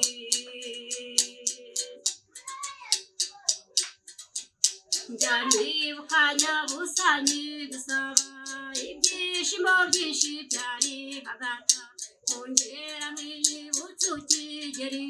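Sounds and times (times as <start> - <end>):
person singing slow song: 0.0 - 2.1, 5.0 - 15.0
sharp claps or rattle strikes: 0.0 - 15.0.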